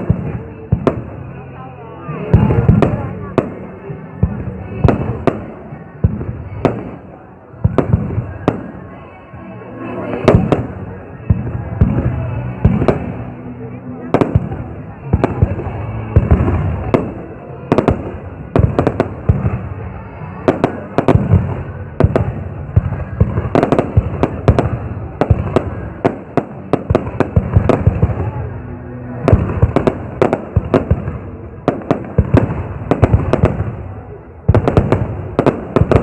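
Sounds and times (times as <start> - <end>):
fireworks exploding: 0.0 - 36.0.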